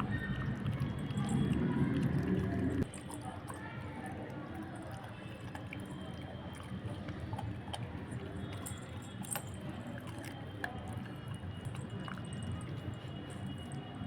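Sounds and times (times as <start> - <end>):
puppy chewing raw meat: 0.0 - 14.0.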